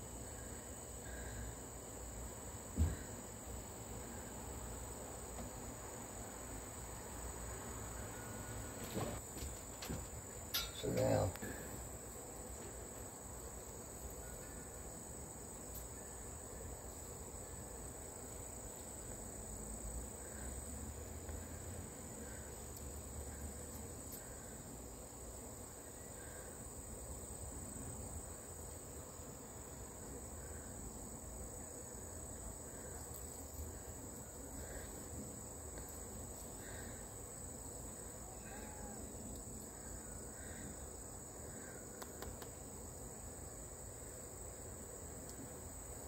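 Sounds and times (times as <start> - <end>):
high-pitched insect chorus: 0.0 - 46.0.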